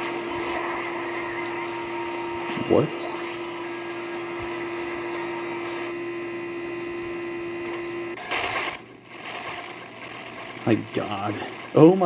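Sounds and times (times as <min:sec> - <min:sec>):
mechanical whir with humming tone: 0:00.0 - 0:12.0.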